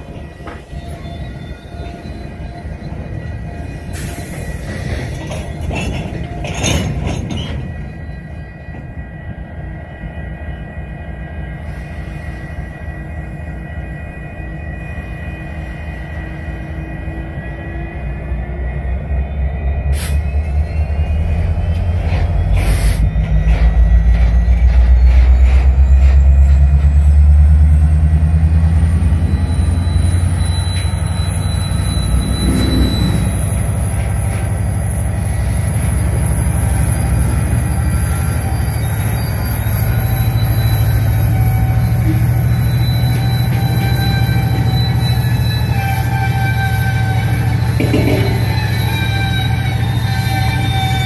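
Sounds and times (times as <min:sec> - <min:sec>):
high-pitched wheel squeal: 0:00.0 - 0:11.0, 0:11.6 - 0:51.0
freight train rumbling past: 0:00.0 - 0:51.0.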